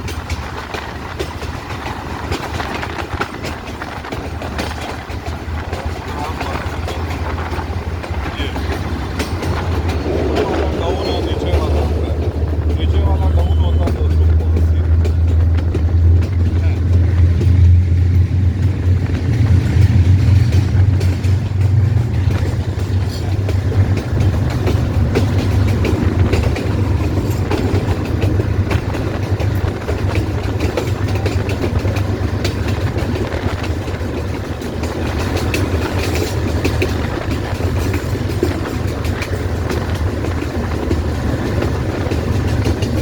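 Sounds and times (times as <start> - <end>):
diesel locomotive engine drone: 0.0 - 43.0
wheels clicking over rail joints: 0.0 - 43.0.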